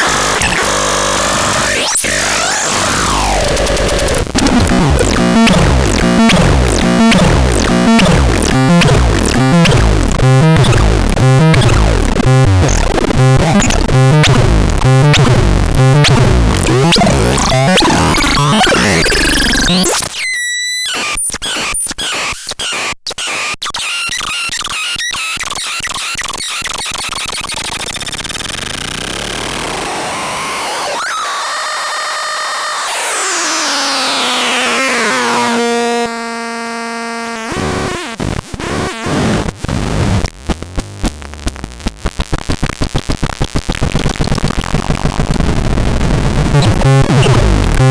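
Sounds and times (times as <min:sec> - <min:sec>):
noisy electronic synthesizer: 0:00.0 - 0:24.8, 0:26.0 - 0:42.0, 0:43.8 - 0:47.9.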